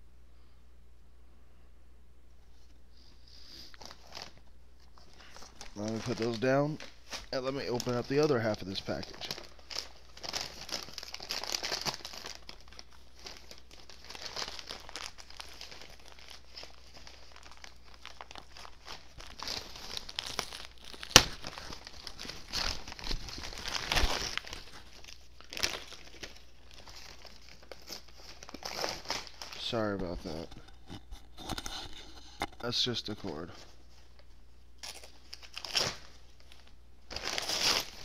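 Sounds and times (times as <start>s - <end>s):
paper wrapping torn and crumpled: 3.6s - 38.0s.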